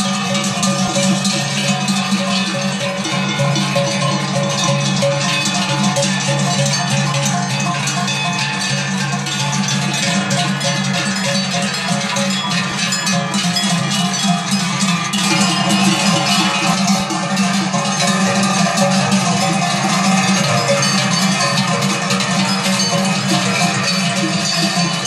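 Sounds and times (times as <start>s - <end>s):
cowbells clanging: 0.0s - 25.0s.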